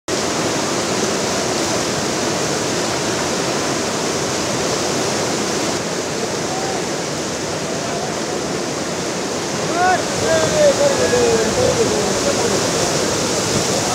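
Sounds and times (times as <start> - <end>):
floodwater rushing: 0.1 - 13.9.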